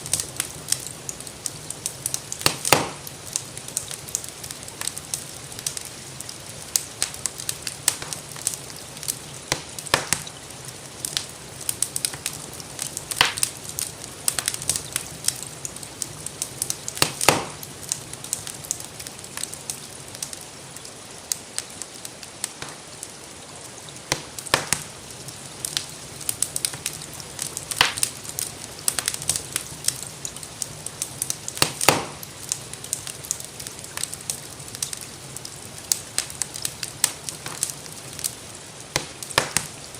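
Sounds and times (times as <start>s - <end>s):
rainfall hiss: 0.0s - 39.9s
wood fire crackling: 0.0s - 39.9s.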